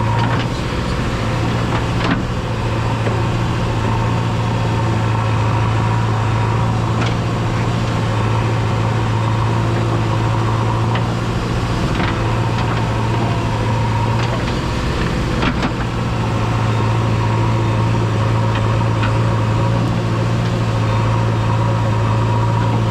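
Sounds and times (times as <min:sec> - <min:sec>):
heavy diesel engine running: 0:00.0 - 0:22.9.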